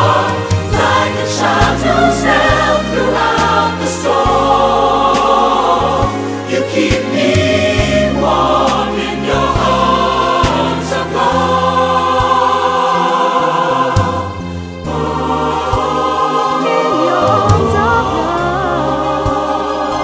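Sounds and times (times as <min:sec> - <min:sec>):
choir singing slow sacred song: 0:00.0 - 0:20.0.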